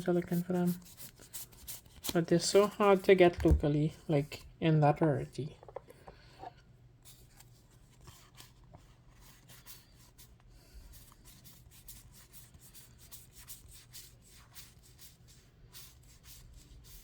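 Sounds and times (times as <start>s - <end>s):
trading cards rustling and scraping: 0.0s - 4.5s, 5.7s - 17.0s.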